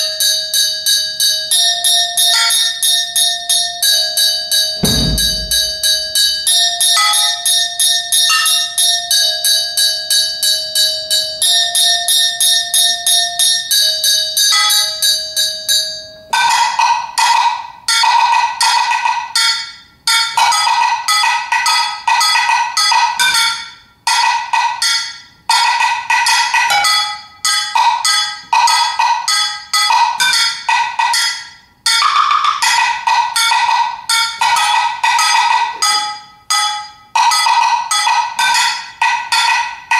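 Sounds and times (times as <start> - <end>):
sticks striking bell-like percussion: 0.0 - 19.6, 20.3 - 39.9.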